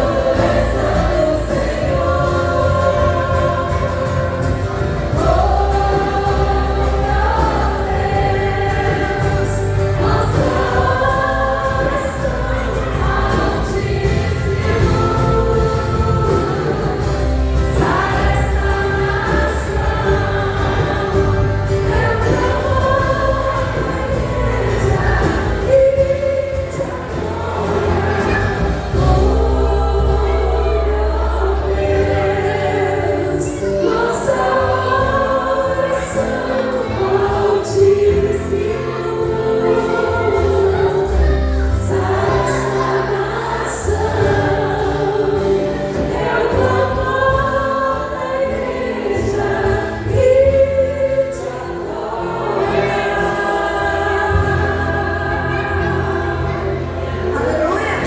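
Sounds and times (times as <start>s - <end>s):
band with held bass notes: 0.0s - 58.0s
choir singing: 0.0s - 58.0s.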